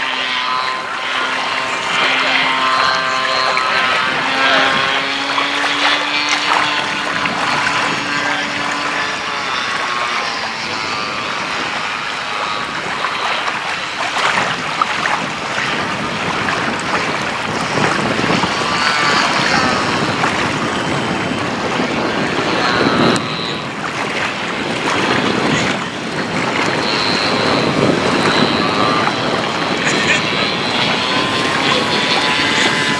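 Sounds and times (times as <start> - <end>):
electric motor and propeller whine: 0.0 - 32.9
wind buffeting microphone: 0.0 - 32.9.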